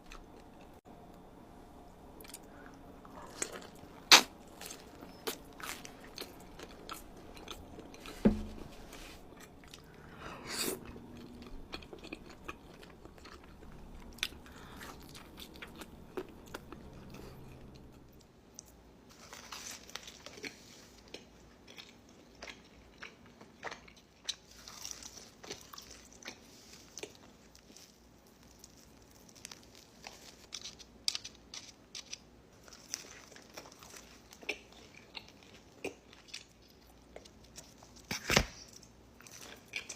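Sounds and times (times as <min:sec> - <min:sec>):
pizza crunching and chewing: 0:02.2 - 0:08.2, 0:09.2 - 0:39.9.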